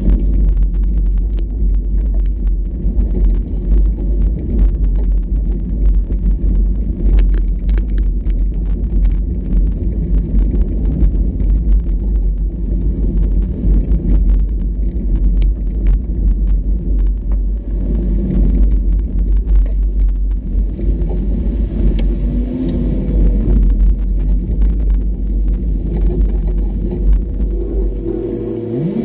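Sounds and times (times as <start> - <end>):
off-road vehicle rumbling: 0.0 - 29.0
sharp clicks and knocks: 0.0 - 29.0.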